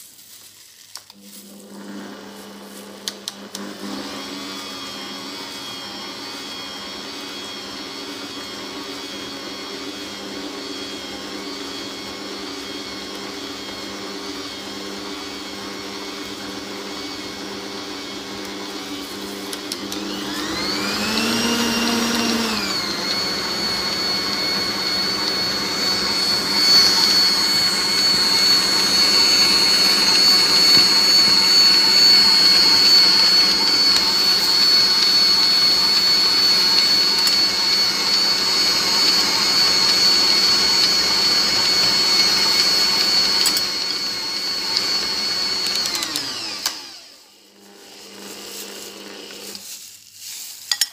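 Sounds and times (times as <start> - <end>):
stand mixer motor whining: 1.2 - 49.6.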